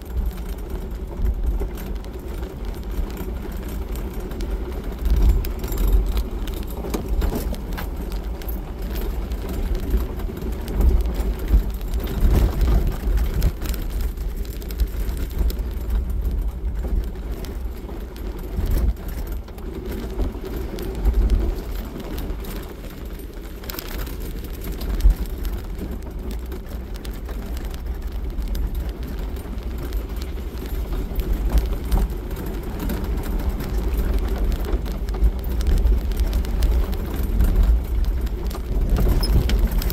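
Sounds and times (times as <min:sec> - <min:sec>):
engine and tyres rumbling: 0:00.0 - 0:39.9
knocks and jolts over gravel: 0:00.0 - 0:39.9.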